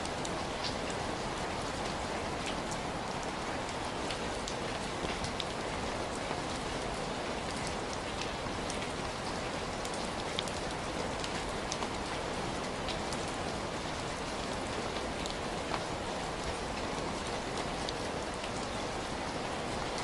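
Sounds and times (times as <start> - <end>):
heavy rain falling: 0.0 - 20.0
raindrops pattering on a surface: 0.0 - 20.0.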